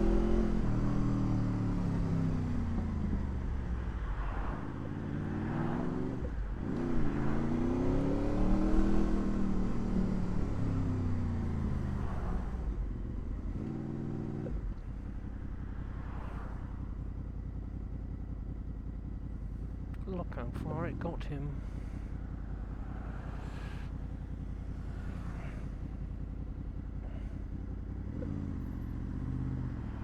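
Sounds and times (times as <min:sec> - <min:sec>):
motorcycle engine: 0:00.0 - 0:30.0.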